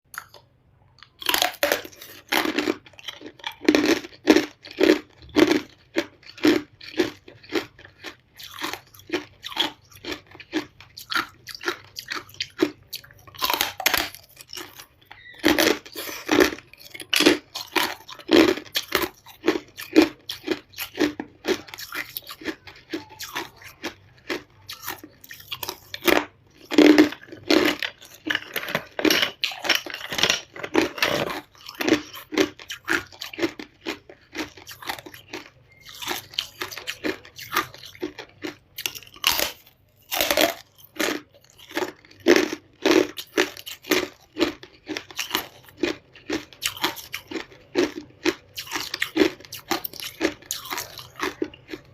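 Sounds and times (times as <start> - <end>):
person chewing hard ice: 0.1 - 51.9.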